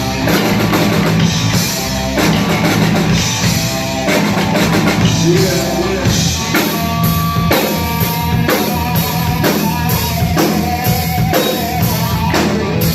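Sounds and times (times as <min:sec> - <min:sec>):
drum kit beat: 0:00.0 - 0:12.9
rock band playing: 0:00.0 - 0:12.9.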